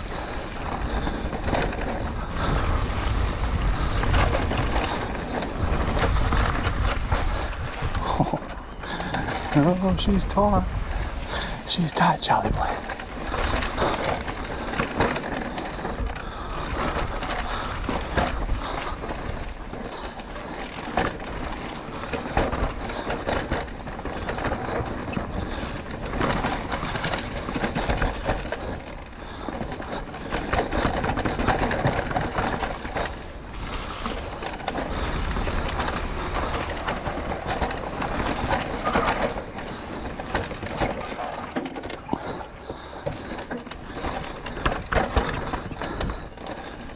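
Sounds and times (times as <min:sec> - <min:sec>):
bike rattling and clattering: 0:00.0 - 0:46.9
tyres rolling over dirt and rocks: 0:00.0 - 0:46.9.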